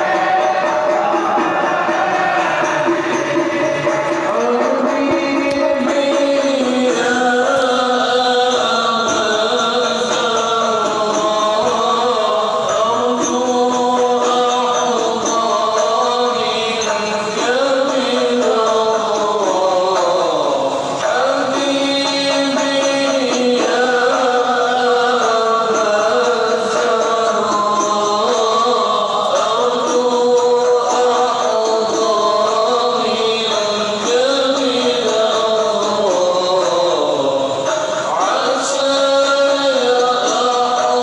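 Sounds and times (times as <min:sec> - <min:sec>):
man chanting through loudspeakers: 0:00.0 - 0:41.0.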